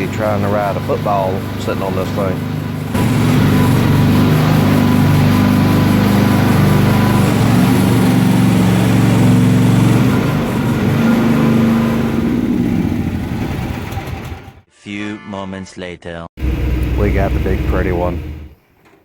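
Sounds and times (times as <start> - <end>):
excavator engine running: 0.0 - 14.6, 16.4 - 18.6.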